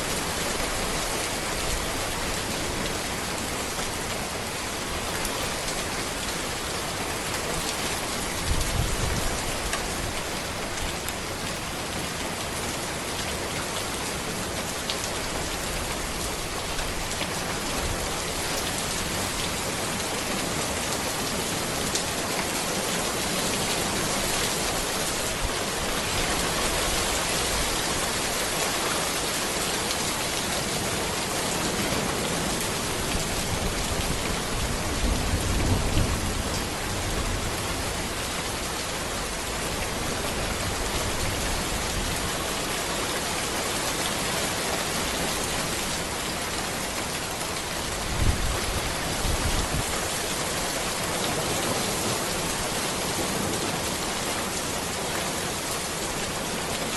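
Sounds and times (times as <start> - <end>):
rain falling on a road: 0.0 - 56.9
raindrops striking close by: 0.0 - 56.9.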